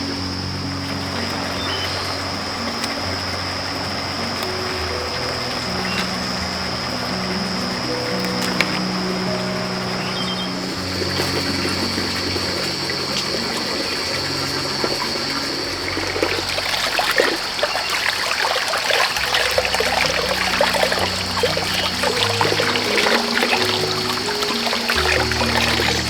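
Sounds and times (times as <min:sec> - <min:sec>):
soft background music: 0:00.0 - 0:26.0
water trickling and splashing: 0:00.0 - 0:26.0.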